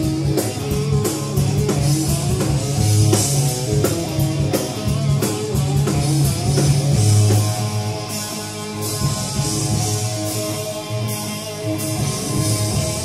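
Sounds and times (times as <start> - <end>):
bass guitar: 0.0 - 13.0
distorted electric guitars: 0.0 - 13.0
drum and cymbal hits: 0.0 - 13.0.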